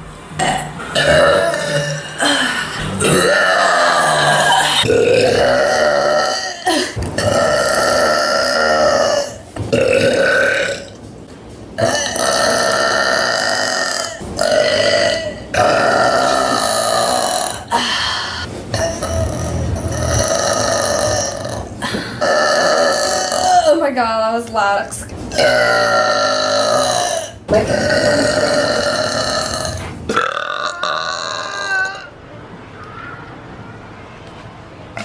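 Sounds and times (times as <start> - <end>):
woman burping: 0.4 - 11.0, 11.8 - 23.9, 25.3 - 32.1.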